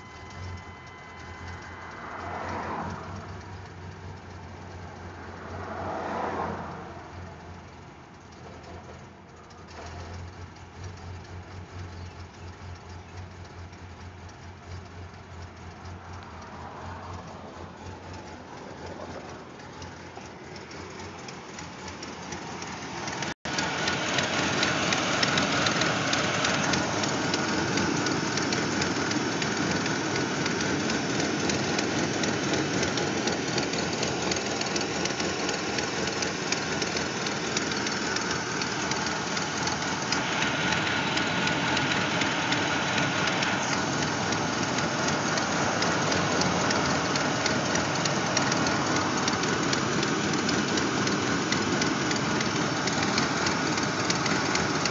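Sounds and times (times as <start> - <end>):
pickup engine idling rough: 0.0 - 54.9.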